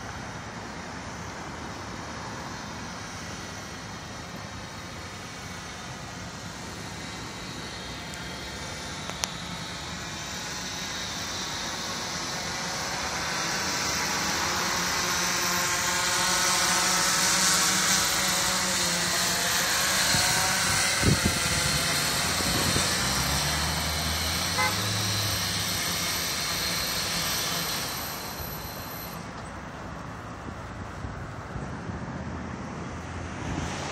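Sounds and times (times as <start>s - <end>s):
drone propellers whirring: 0.0s - 32.0s.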